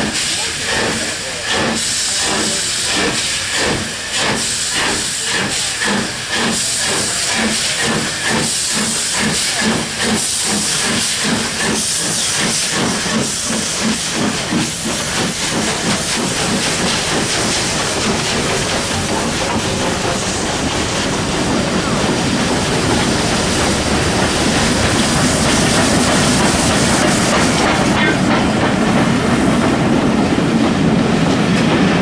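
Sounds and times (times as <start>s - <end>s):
locomotive puffs: 0.0s - 30.0s
steam locomotive hissing: 0.0s - 32.0s.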